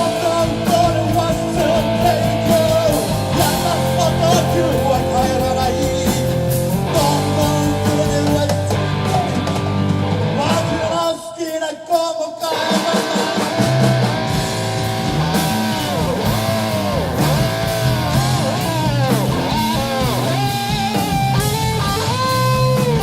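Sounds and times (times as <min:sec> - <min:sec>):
electric guitar bending notes: 0:00.0 - 0:10.9, 0:12.8 - 0:23.0
live rock band playing: 0:00.0 - 0:11.2, 0:12.4 - 0:23.0.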